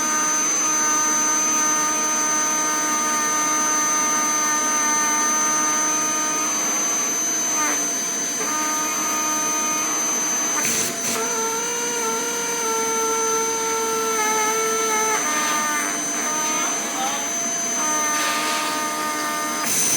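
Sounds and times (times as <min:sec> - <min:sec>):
vacuum cleaner whine: 0:00.0 - 0:19.9.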